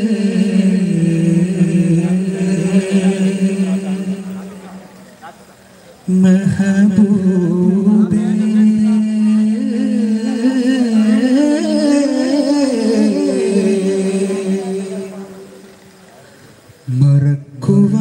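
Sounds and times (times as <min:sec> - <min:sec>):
hummed drone: 0:00.0 - 0:05.3, 0:06.1 - 0:16.3
man singing unaccompanied melody: 0:00.0 - 0:05.3, 0:06.0 - 0:15.8, 0:16.8 - 0:18.0.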